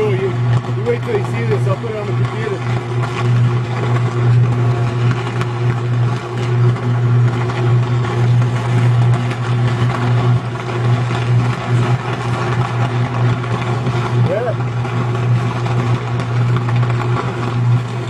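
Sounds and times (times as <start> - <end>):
electrical crackling: 0.0 - 18.0
transformer arc buzzing: 0.0 - 18.0.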